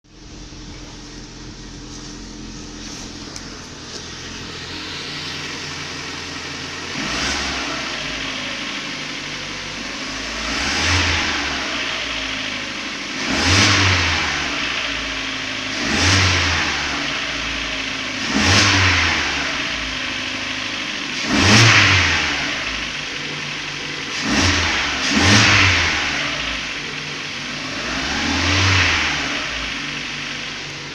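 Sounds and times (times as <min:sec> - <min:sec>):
car engine revving: 0:00.0 - 0:30.9
rumble as revs drop: 0:00.1 - 0:30.9.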